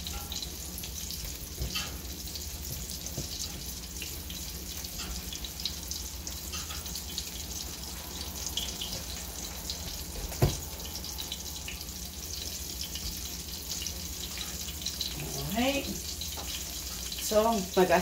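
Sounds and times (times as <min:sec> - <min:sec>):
fish frying in hot oil: 0:00.0 - 0:18.0.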